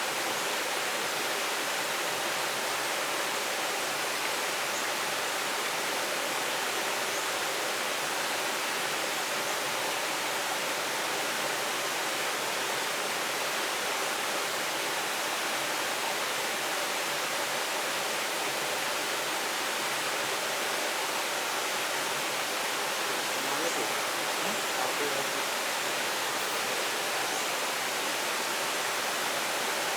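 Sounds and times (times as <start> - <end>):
river water flowing: 0.0 - 29.9.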